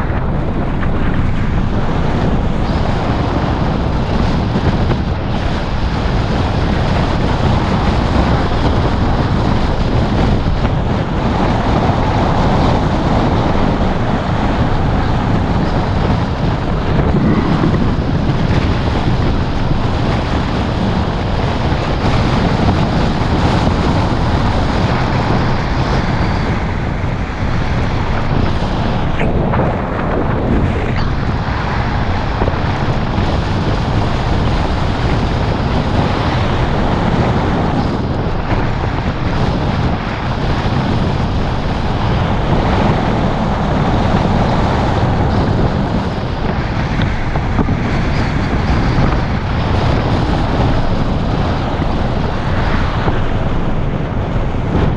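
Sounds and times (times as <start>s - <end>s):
road and tyre rumble: 0.0s - 54.9s
wind buffeting microphone: 0.0s - 54.9s.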